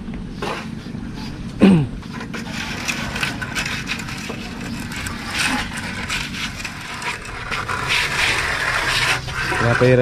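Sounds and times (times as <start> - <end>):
straightedge scraping plaster: 0.4 - 1.4, 2.0 - 10.0
low motor hum: 0.9 - 10.0.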